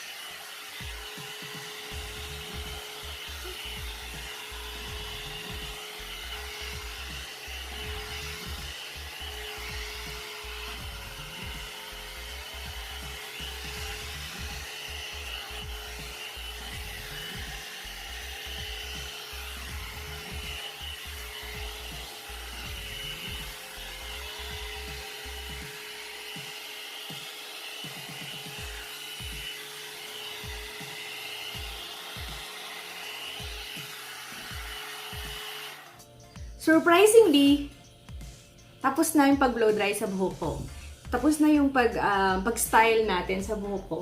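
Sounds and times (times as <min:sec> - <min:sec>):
background music: 0:00.0 - 0:44.0
hot air brush dryer running: 0:00.0 - 0:44.0.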